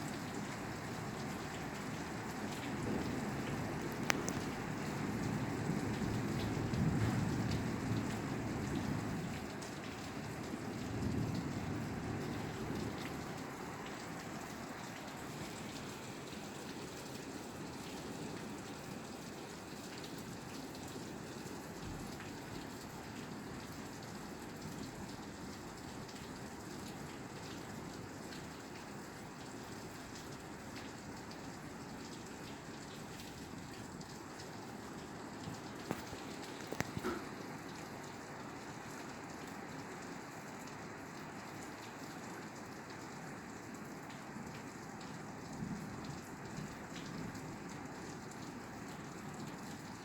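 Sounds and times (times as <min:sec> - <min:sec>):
rain falling on a roof: 0:00.0 - 0:50.0.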